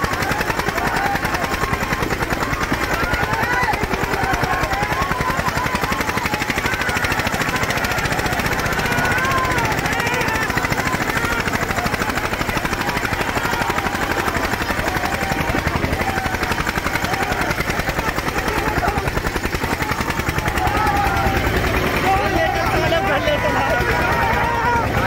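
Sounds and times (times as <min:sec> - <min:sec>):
diesel tractor engine chugging: 0:00.0 - 0:25.0.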